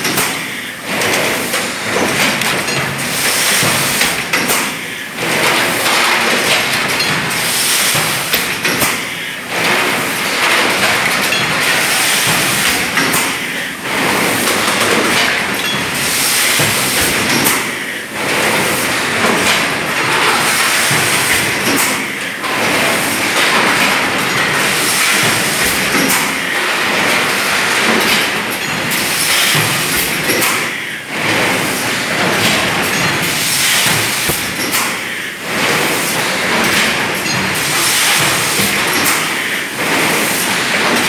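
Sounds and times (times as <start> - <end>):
bottling line mechanical clatter: 0.0 - 41.0.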